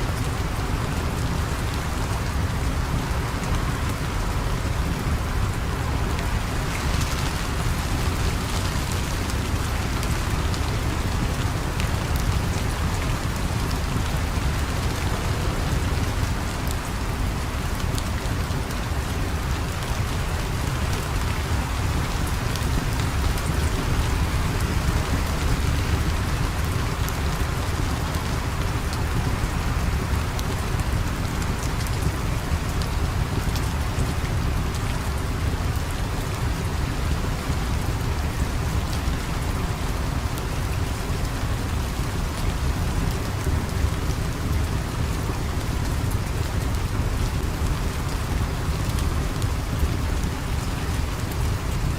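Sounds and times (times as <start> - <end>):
steady rain hissing: 0.0 - 51.9.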